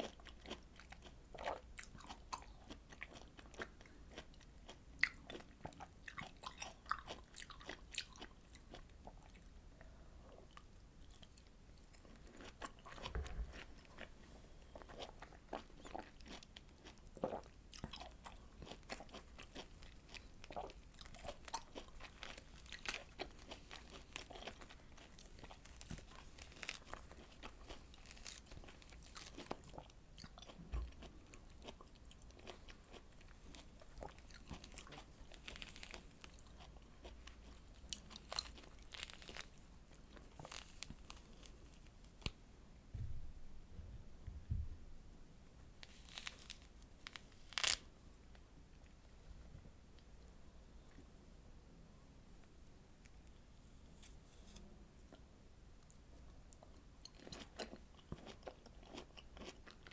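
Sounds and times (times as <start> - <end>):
chewing citrus fruit: 0.0 - 42.3, 54.0 - 59.9.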